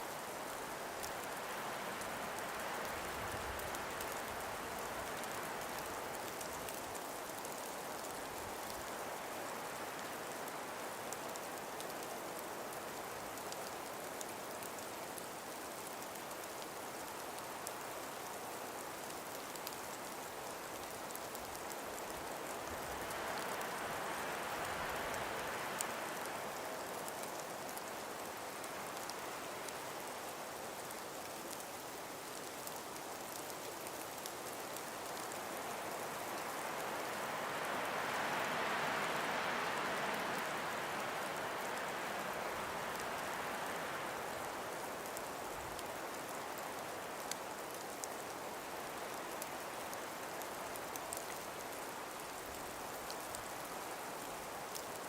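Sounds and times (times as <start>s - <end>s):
breeze through trees: 0.0s - 55.0s.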